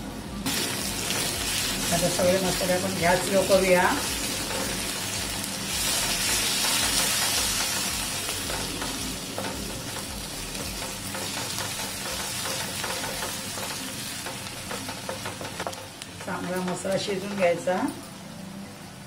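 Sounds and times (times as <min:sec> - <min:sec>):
spices sizzling in oil: 0:00.4 - 0:18.3.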